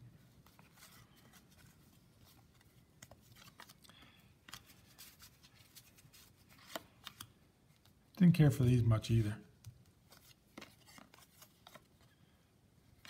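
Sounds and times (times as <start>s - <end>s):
cards rustling and clicking: 0.3s - 8.0s, 9.1s - 13.0s.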